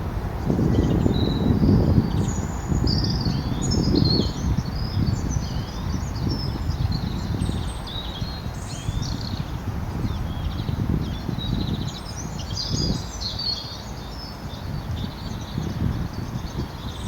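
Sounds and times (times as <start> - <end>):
small birds chirping: 0.7 - 17.0.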